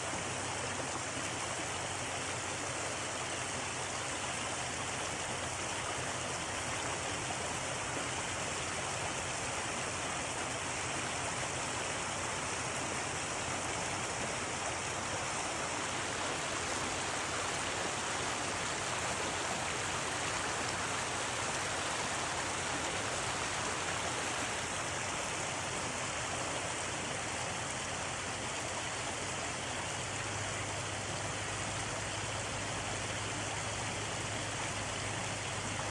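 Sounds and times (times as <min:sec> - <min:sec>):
stream water rushing: 0:00.0 - 0:35.9.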